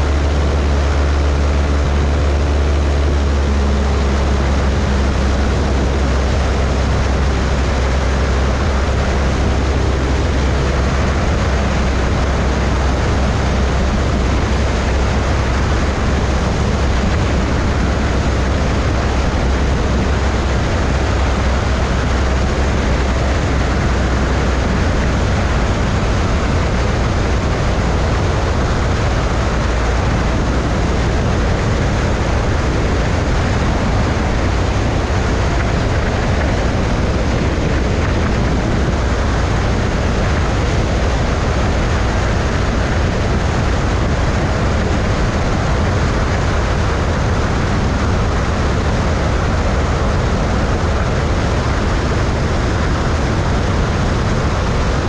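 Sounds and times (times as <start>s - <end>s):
airplane engine droning: 0.0s - 55.0s
wind rushing over microphone: 0.0s - 55.0s.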